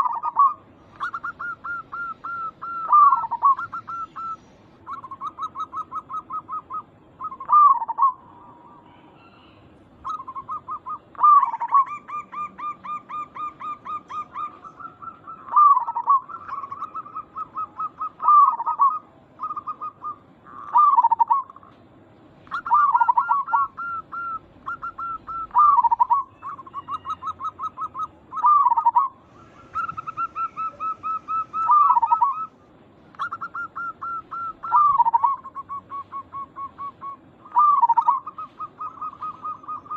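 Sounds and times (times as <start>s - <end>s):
doves cooing: 0.0s - 21.8s, 22.4s - 39.9s.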